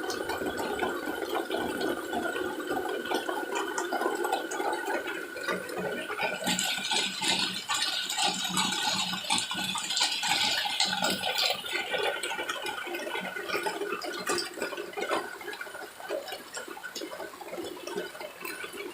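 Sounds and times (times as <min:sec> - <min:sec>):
rain on hard surfaces: 0:00.0 - 0:18.9
running water: 0:00.0 - 0:18.9.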